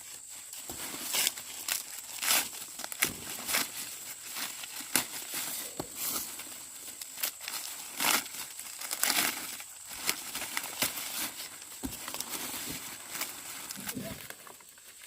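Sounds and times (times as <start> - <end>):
dry corn leaves rustling: 0.0 - 15.0
corn ears snapping off stalks: 0.6 - 6.4, 7.0 - 15.0.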